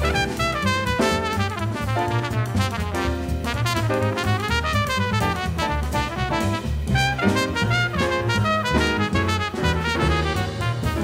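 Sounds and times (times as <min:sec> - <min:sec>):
drum kit with cymbal strokes: 0:00.0 - 0:11.0
piano: 0:00.0 - 0:11.0
trumpet melody: 0:00.0 - 0:11.0
upright bass: 0:00.0 - 0:11.0.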